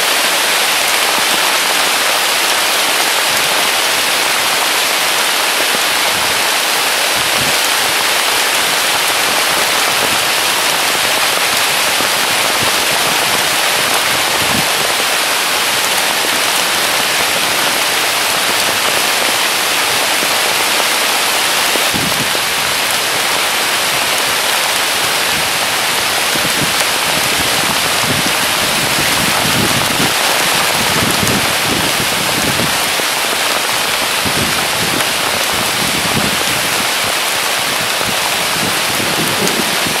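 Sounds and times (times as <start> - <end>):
heavy rain on foliage: 0.0 - 40.0.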